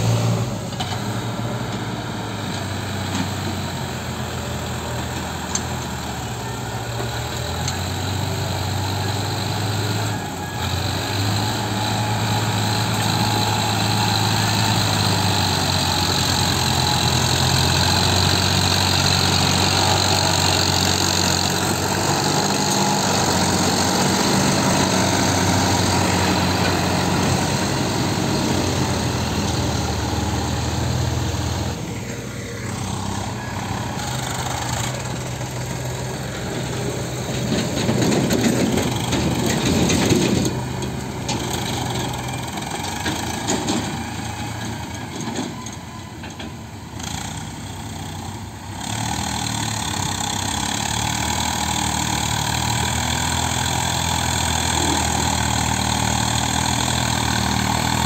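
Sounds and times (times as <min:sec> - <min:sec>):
diesel tractor engine labouring: 0:00.0 - 0:58.0.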